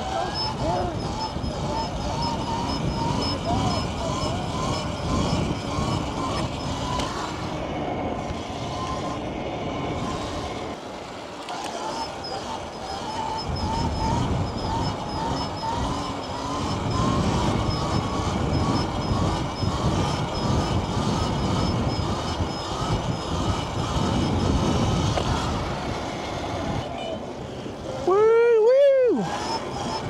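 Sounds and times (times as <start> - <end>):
wind buffeting microphone: 0.0 - 10.8, 12.1 - 26.9.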